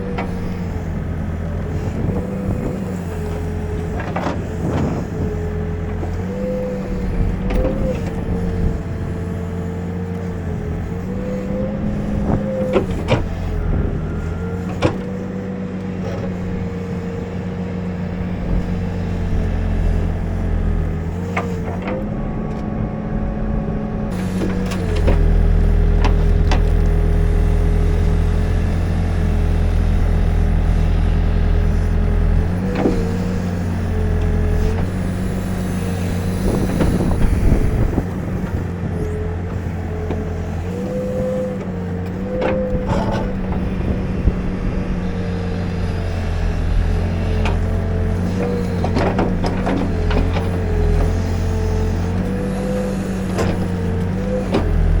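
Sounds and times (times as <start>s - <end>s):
backhoe diesel engine under load: 0.0s - 55.0s.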